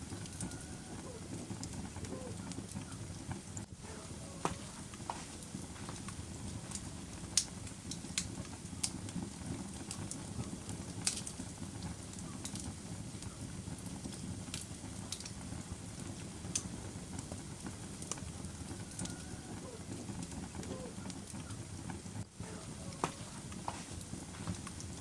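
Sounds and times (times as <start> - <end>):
fire crackling and popping: 0.0 - 25.0
fire rumbling: 0.0 - 25.0.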